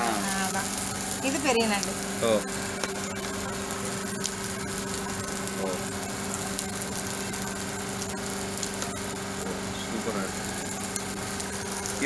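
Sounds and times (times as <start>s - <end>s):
low hum: 0.0s - 12.0s
oil sizzling on griddle: 0.0s - 12.0s.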